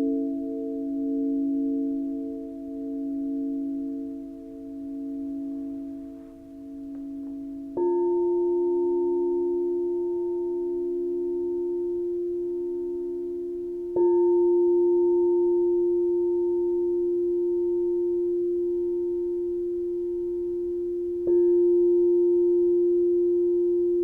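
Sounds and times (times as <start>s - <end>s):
crystal singing bowl ringing: 0.0s - 24.0s.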